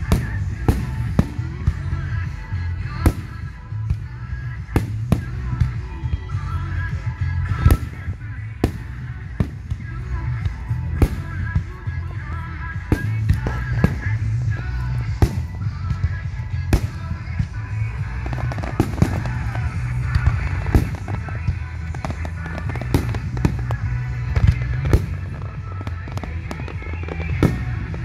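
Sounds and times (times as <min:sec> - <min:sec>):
fireworks bangs: 0:00.0 - 0:04.0, 0:07.4 - 0:28.0
music with heavy bass: 0:00.0 - 0:28.0.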